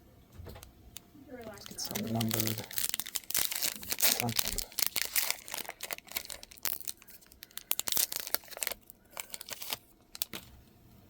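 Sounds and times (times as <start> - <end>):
wrapper being torn and crinkled: 1.4 - 10.4.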